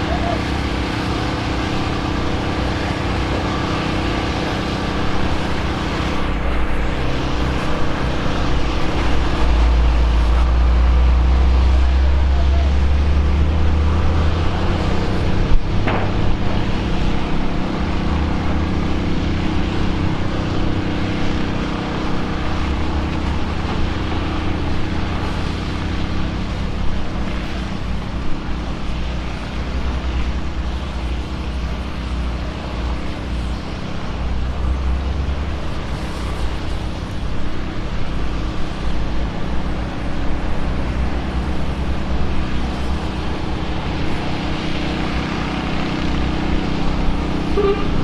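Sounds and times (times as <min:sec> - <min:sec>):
vehicle engine idling: 0:00.0 - 0:48.0.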